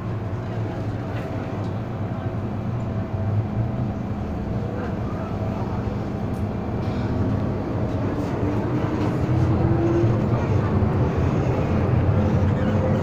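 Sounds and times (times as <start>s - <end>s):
train rumbling and humming: 0.0s - 13.0s.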